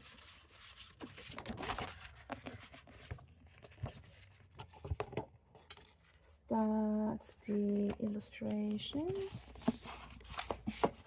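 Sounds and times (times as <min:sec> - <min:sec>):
paper and card rustling: 0:00.0 - 0:06.4, 0:07.4 - 0:11.0.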